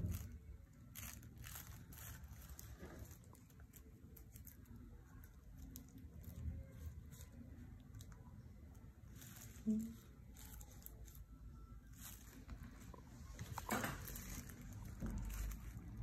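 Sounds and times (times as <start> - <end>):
plastic sheet crinkling: 0.0 - 16.0.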